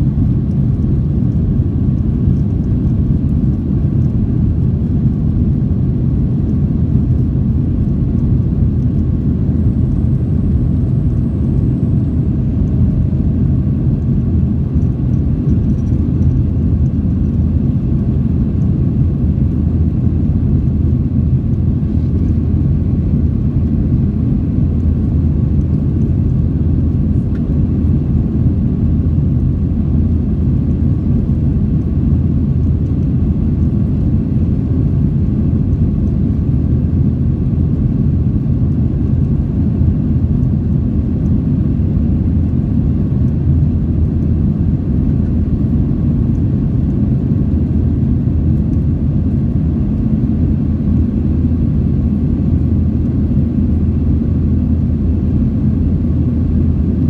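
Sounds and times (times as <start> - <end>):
jet engines low rumble: 0.0 - 57.0.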